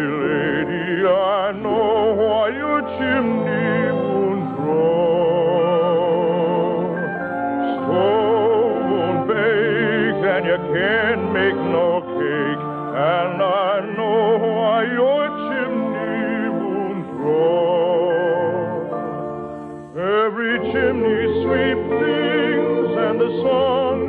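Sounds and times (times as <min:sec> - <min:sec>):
operatic singing: 0:00.0 - 0:24.0
orchestra playing: 0:00.0 - 0:24.0.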